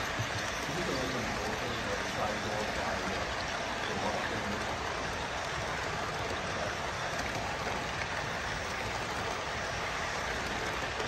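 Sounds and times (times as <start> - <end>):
model train cars rolling on track: 0.0 - 11.0.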